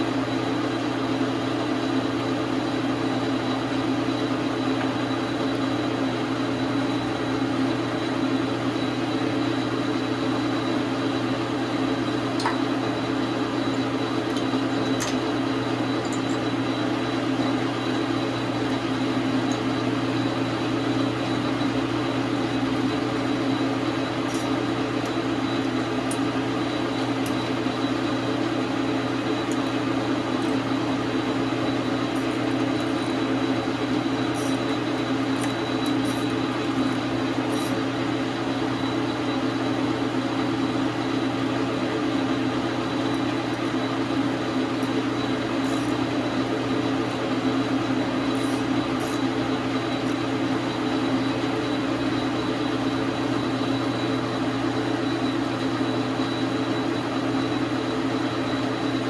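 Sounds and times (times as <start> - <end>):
metal lathe running: 0.2 - 59.0.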